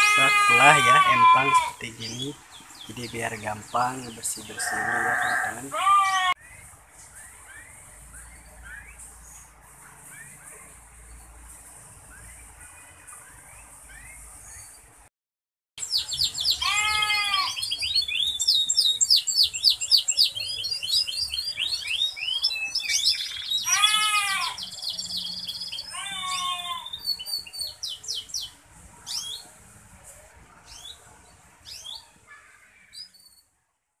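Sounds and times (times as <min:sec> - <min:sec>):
canaries singing trills: 0:00.0 - 0:15.0, 0:15.8 - 0:33.6.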